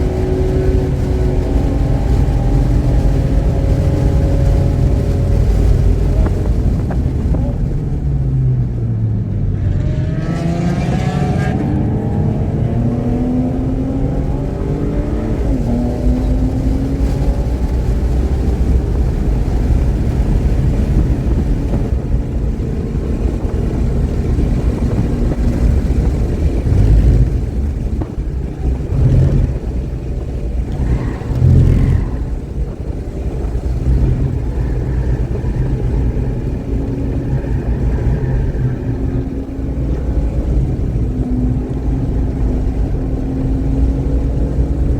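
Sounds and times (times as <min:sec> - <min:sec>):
car engine accelerating hard: 0:00.0 - 0:44.9
road and wind noise rumble: 0:00.0 - 0:44.9.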